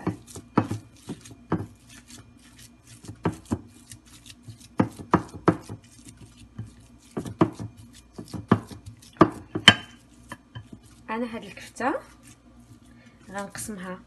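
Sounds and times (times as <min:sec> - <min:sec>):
hands squishing raw meat: 0:00.0 - 0:13.5.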